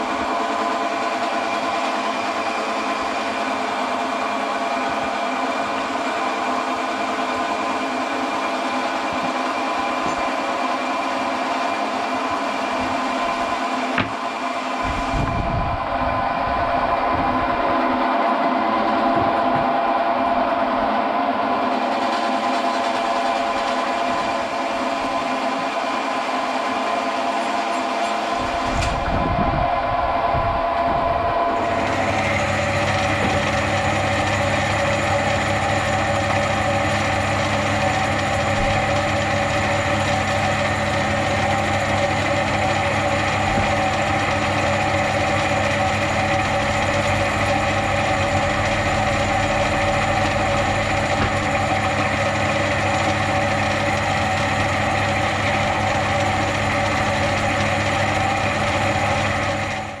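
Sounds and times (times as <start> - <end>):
large engine idling: 0.0 - 60.0.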